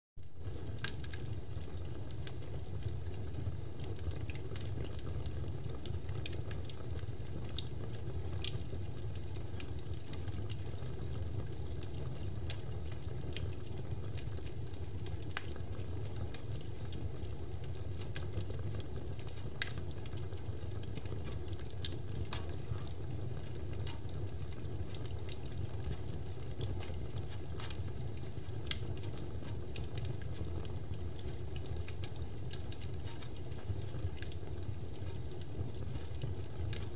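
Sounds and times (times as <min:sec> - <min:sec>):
bonfire crackling and popping: 0:00.2 - 0:36.9
low fire rumble: 0:00.2 - 0:36.9.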